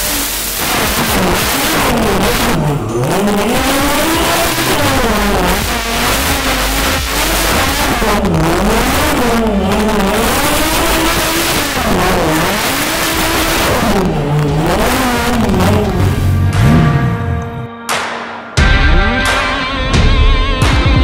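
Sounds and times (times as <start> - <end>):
car engine revving hard: 0.0 - 17.7.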